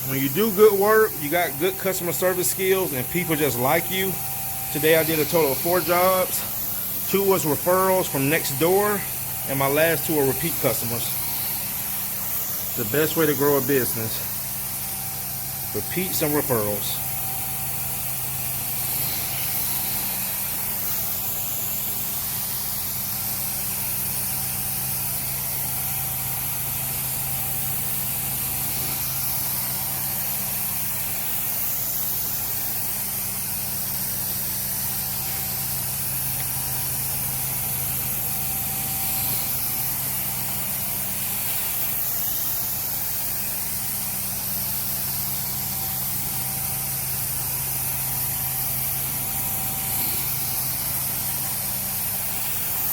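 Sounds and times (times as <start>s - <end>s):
motor hum: 0.0s - 43.8s
hiss of spray and suction: 0.0s - 52.9s.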